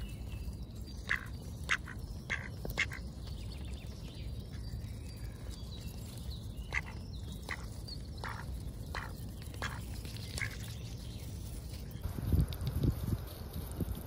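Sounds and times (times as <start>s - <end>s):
ducks feeding clicks and snaps: 0.0s - 14.0s.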